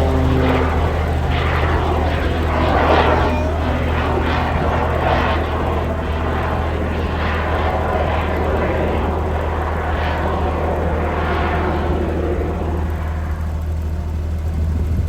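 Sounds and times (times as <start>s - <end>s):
aircraft propeller engine in flight: 0.0s - 15.0s.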